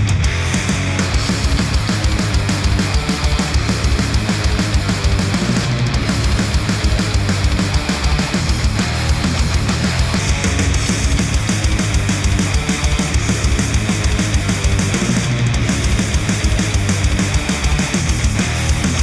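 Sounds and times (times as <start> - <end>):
heavy metal instrumental music: 0.0 - 19.0.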